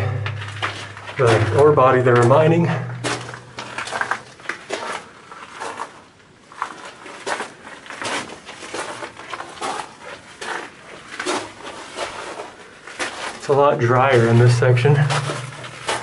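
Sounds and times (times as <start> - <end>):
footsteps on gravel: 0.0 - 16.0.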